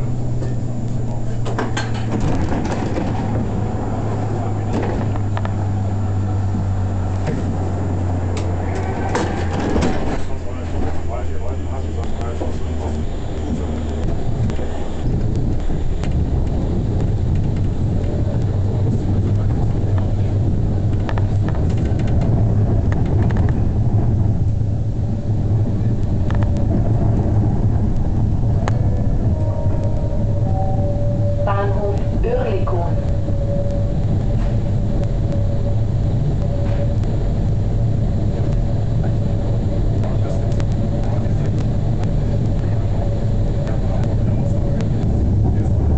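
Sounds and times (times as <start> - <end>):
tram rumbling on rails: 0.0 - 45.9.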